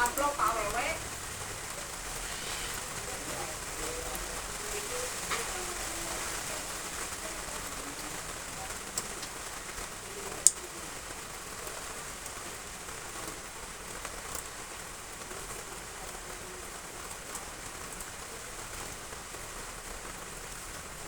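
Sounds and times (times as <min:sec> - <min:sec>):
heavy rain on roof tiles: 0:00.0 - 0:21.0.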